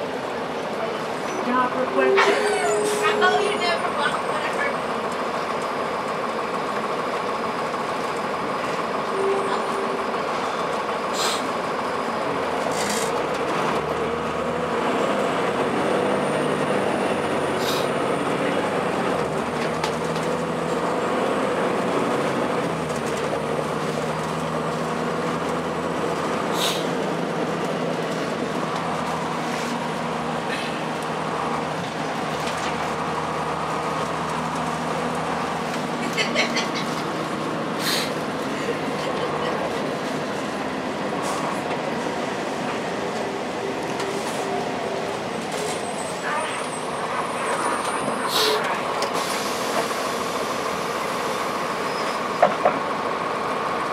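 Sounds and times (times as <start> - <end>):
bus engine and road noise drone: 0.0 - 53.9.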